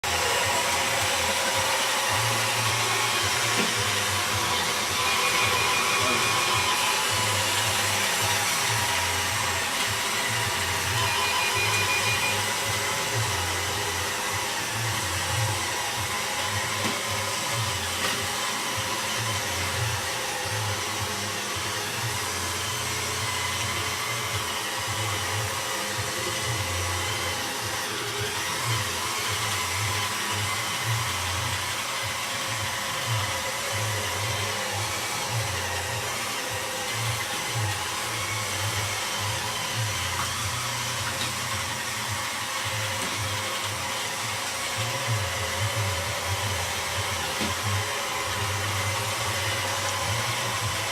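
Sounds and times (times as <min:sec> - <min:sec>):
robot vacuum whirring: 0:00.0 - 0:50.9.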